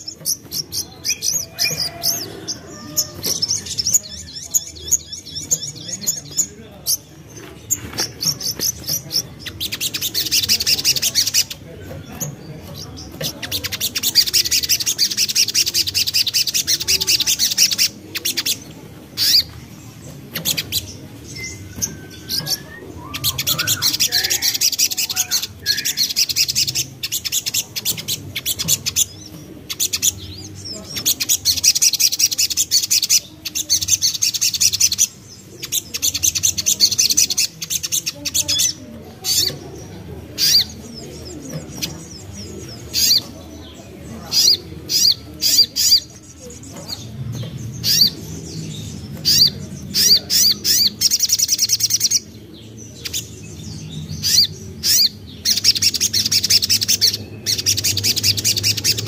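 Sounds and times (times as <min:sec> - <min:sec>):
bird chattering trills: 0:00.0 - 0:59.0.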